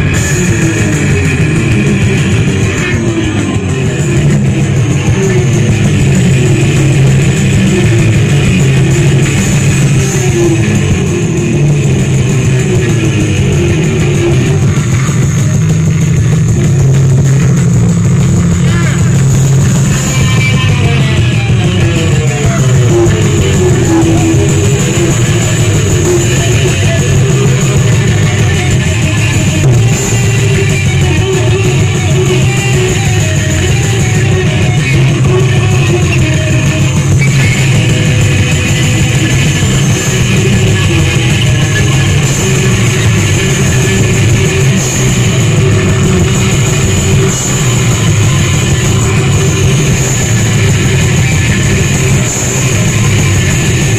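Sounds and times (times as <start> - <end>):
distorted electric guitar: 0.0 - 53.9
drums: 0.0 - 53.9
rock band playing heavy rock: 0.0 - 53.9.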